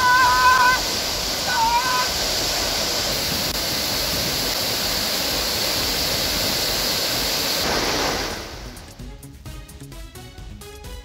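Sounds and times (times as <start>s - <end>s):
waterfall roaring: 0.0s - 8.9s.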